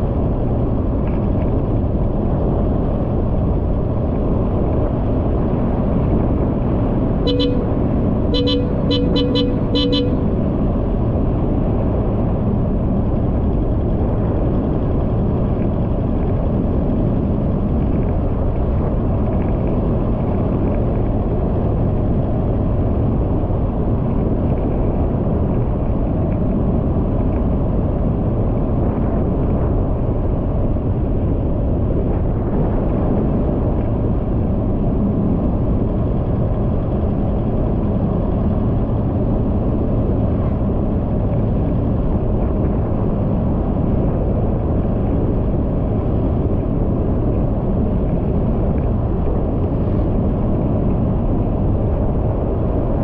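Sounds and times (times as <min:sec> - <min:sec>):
vehicle driving on paved road: 0:00.0 - 0:53.0.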